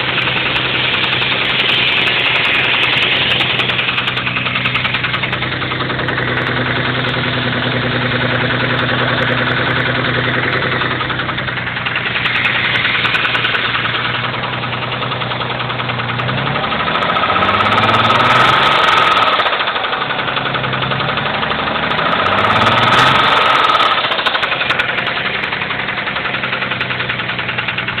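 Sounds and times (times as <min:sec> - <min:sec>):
car engine idling with knock: 0:00.0 - 0:28.0
car engine revving: 0:00.0 - 0:28.0.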